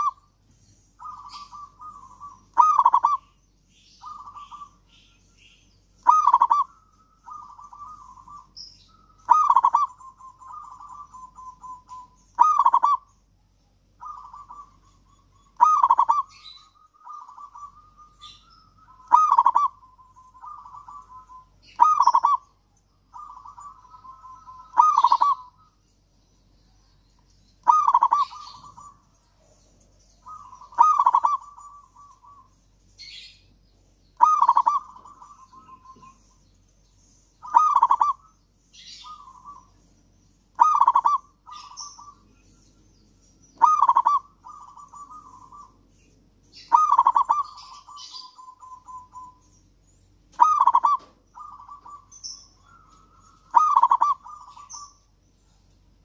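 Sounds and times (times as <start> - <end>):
dove cooing: 0.0 - 0.3, 1.0 - 5.2, 6.0 - 13.2, 14.0 - 25.8, 27.6 - 33.4, 34.2 - 36.4, 37.4 - 39.8, 40.5 - 42.5, 43.6 - 45.8, 46.5 - 49.4, 50.3 - 55.0.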